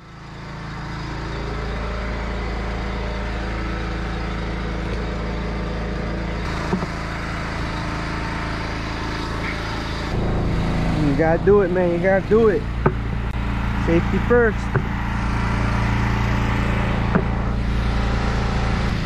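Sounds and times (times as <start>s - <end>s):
pressure washer engine running: 0.0s - 19.0s.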